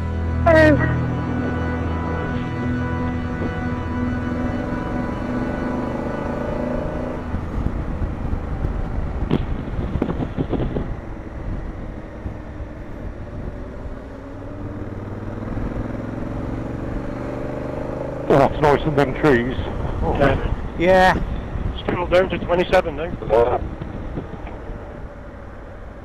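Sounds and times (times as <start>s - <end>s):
motorcycle engine running: 0.0s - 22.5s
wind rumble: 0.0s - 26.0s.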